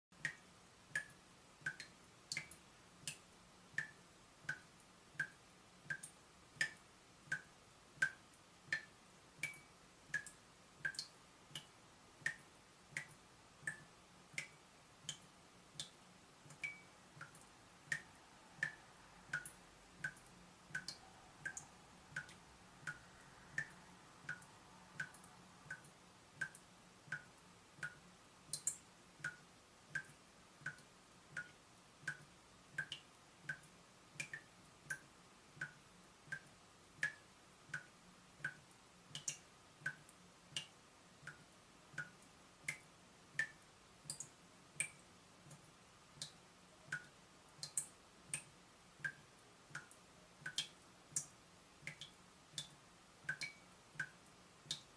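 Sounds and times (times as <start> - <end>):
water dripping from tap: 0.2 - 54.9.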